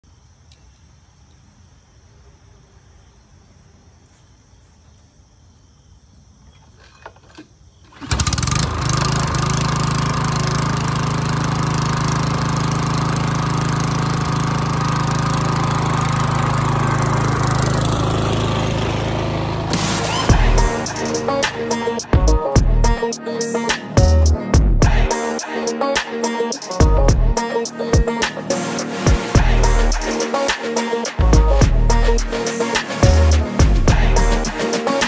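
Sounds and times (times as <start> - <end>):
lawn mower engine running: 6.7 - 35.0.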